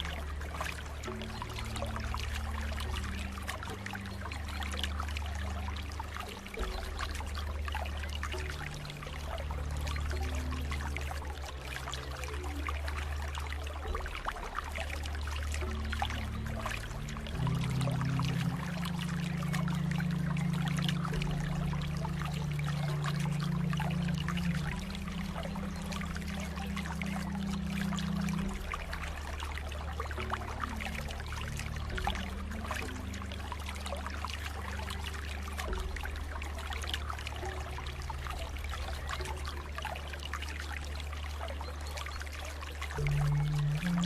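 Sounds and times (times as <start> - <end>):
low hum: 0.0 - 44.0
low steady drone: 0.0 - 44.0
water trickling and splashing: 0.0 - 44.0.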